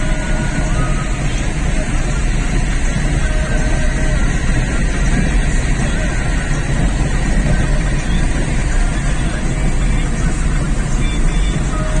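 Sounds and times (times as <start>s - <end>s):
vehicle rumble from inside: 0.0s - 12.0s.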